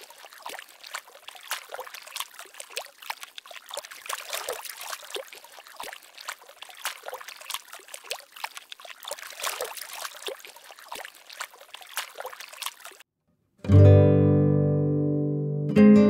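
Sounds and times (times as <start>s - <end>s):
dog splashing through water: 0.0s - 13.1s.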